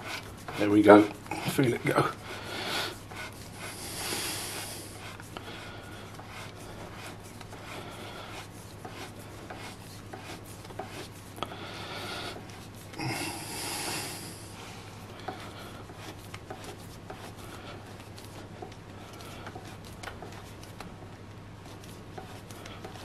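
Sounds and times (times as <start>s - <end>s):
faint steady hum: 0.0s - 23.0s
hand rubbing on metal driver: 2.9s - 11.4s, 12.1s - 23.0s.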